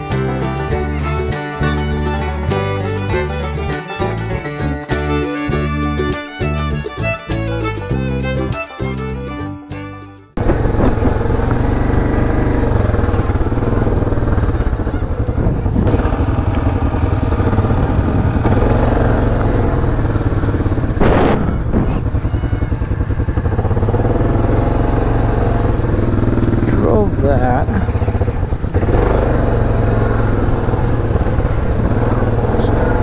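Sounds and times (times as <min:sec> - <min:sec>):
atv engine running: 0:00.0 - 0:09.3, 0:10.4 - 0:33.0
fiddle music: 0:00.0 - 0:33.0.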